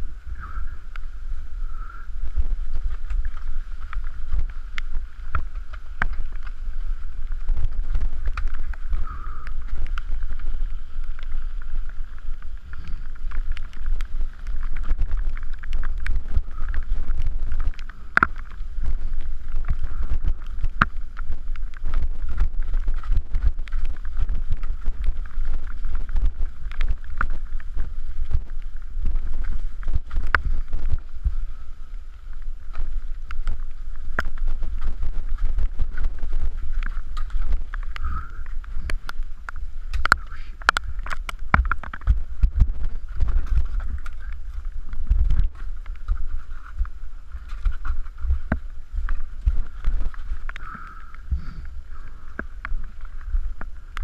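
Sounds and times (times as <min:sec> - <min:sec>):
bike rattling over rocks: 0:01.8 - 0:54.0.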